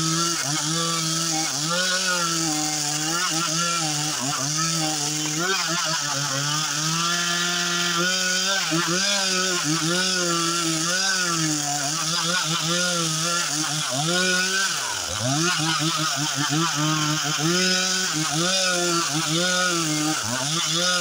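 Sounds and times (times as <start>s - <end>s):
chainsaw cutting log: 0.0s - 21.0s.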